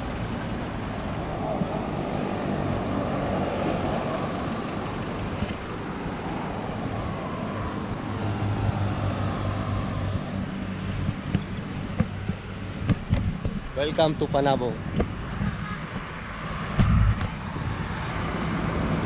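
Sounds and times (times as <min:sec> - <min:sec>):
tyre and road noise: 0:00.0 - 0:19.0
vehicle engine drone: 0:00.0 - 0:19.0.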